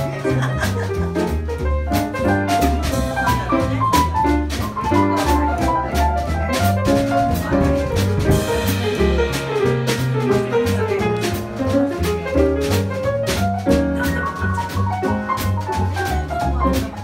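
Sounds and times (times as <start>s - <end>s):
double bass notes: 0.0s - 17.0s
drum kit on cymbals and drums: 0.0s - 17.0s
keyboard melody: 1.9s - 17.0s.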